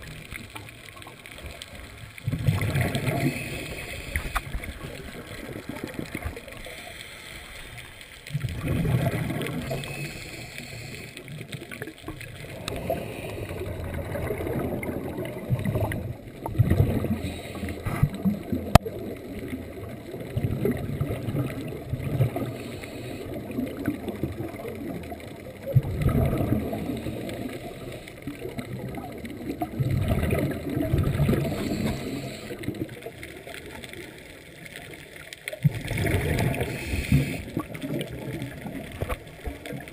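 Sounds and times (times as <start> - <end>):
muffled underwater exhaust bubbles: 0.0 - 39.9.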